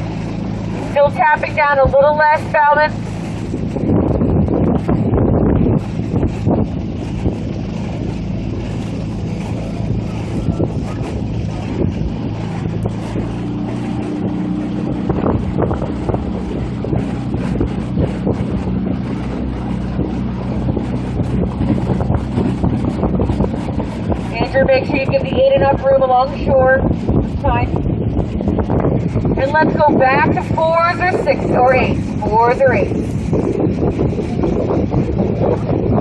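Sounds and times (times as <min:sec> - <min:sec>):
boat motor running: 0:00.0 - 0:36.0
wind on microphone: 0:00.0 - 0:36.0.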